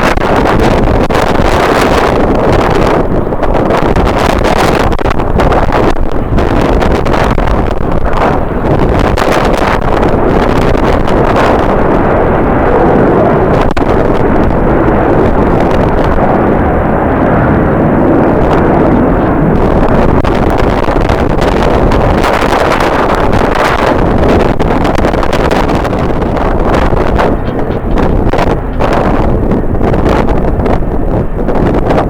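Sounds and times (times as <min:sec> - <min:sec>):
jet engines: 0:00.0 - 0:32.0
wind buffeting microphone: 0:00.0 - 0:32.0.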